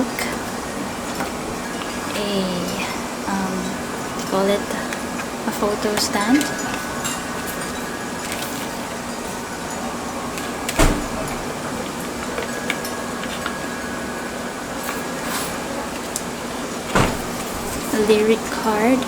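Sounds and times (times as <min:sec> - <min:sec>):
faint hum: 0:00.0 - 0:19.0
outdoor background noise: 0:00.0 - 0:19.0.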